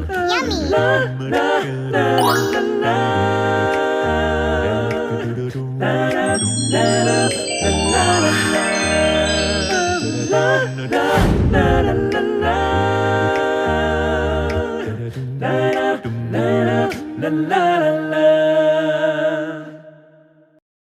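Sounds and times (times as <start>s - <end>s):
voices singing a cappella: 0.0s - 20.2s.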